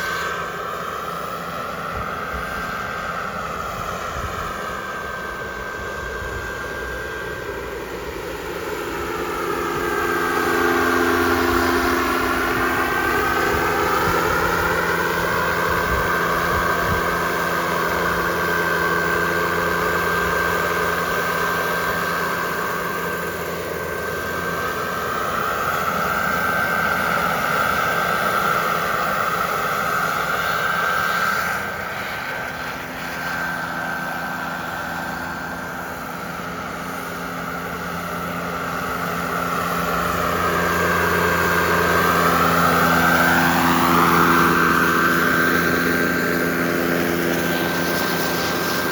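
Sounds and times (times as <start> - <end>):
model jet turbine whine: 0.0 - 48.9.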